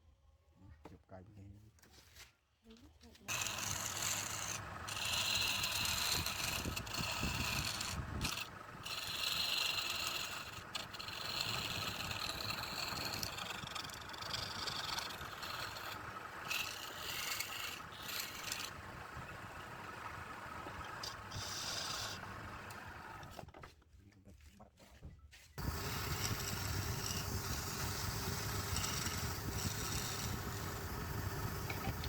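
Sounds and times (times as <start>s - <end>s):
tool scraping spinning wood: 3.3s - 23.6s, 25.6s - 32.0s.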